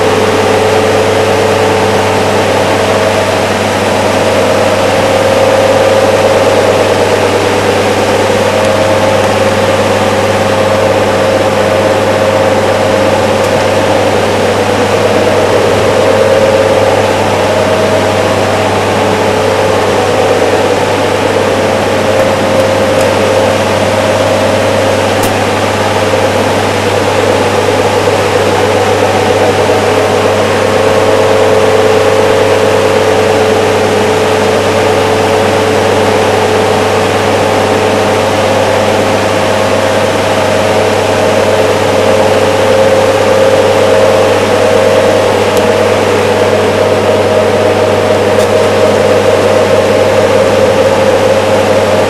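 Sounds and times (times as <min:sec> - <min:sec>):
small fan motor whining: 0:00.0 - 0:52.0.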